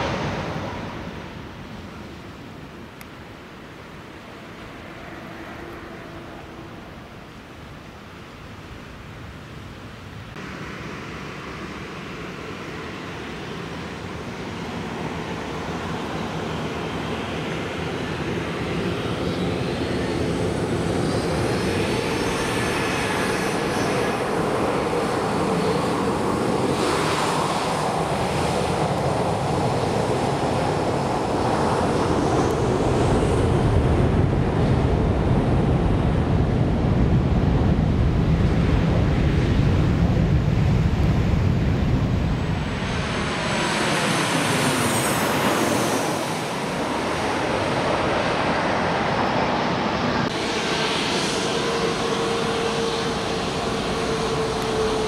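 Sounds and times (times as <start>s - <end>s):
deep rumble of takeoff roll: 0.0s - 2.3s, 10.3s - 55.0s
jet engines spooling up: 10.4s - 55.0s.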